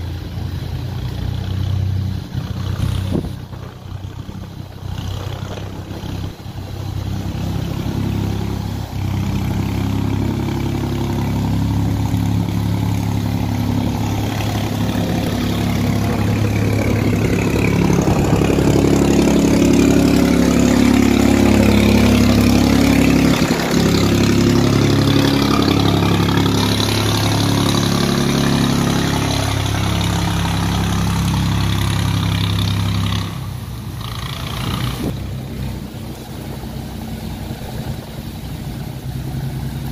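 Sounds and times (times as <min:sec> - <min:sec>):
barge engine running: 0:00.0 - 0:39.9.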